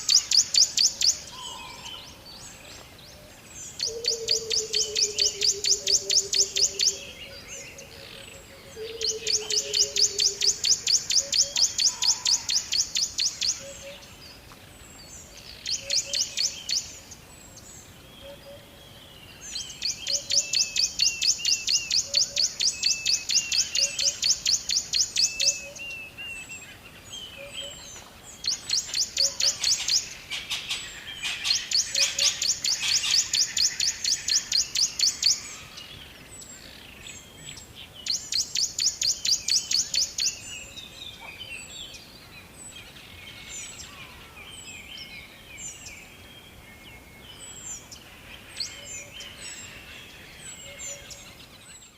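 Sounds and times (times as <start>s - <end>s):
birds trilling and warbling: 0.0s - 51.9s.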